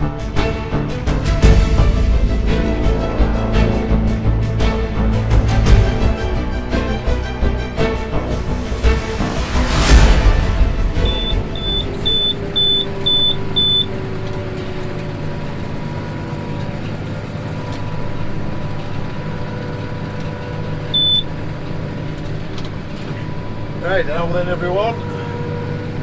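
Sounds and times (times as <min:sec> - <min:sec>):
farm machine engine running: 0:00.0 - 0:26.0.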